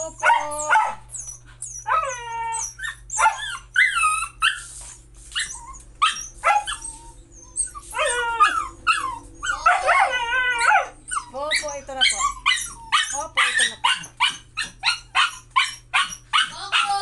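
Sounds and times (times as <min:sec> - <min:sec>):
puppy whining and yipping: 0:00.0 - 0:17.0.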